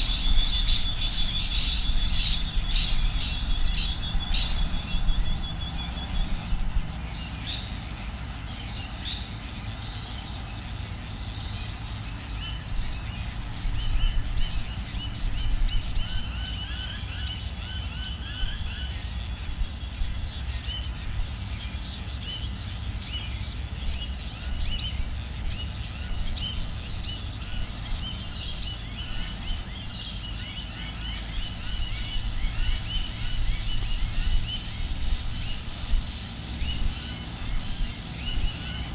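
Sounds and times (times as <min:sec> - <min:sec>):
birds chirping and calling: 0:00.0 - 0:38.9
steady low rumble: 0:00.0 - 0:38.9.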